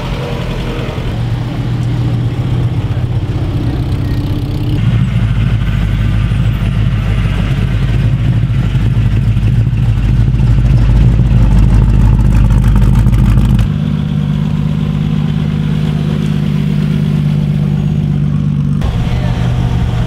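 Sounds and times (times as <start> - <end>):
pickup truck engine rumble: 0.0 - 20.0
racing car engine running: 0.0 - 20.0.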